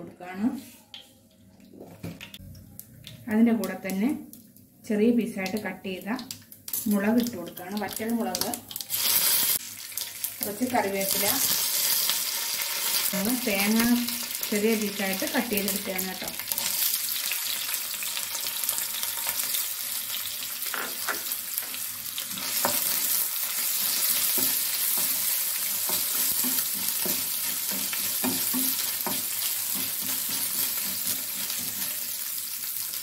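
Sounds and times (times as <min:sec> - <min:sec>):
food sizzling in oil: 0:06.5 - 0:33.0.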